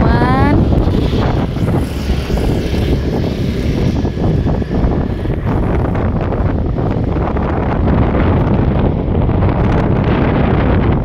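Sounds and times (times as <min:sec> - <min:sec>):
motorcycle engine: 0:00.0 - 0:11.0
road noise: 0:00.0 - 0:11.0
wind buffeting microphone: 0:00.0 - 0:11.0.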